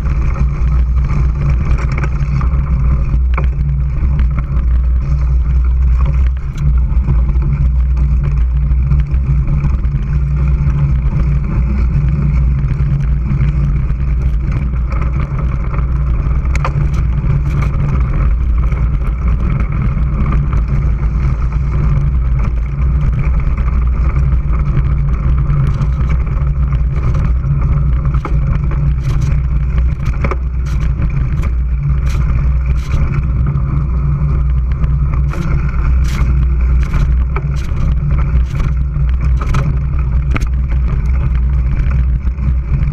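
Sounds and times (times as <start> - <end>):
bike clicks and knocks: 0.0 - 42.9
wind and tyre rumble: 0.0 - 42.9.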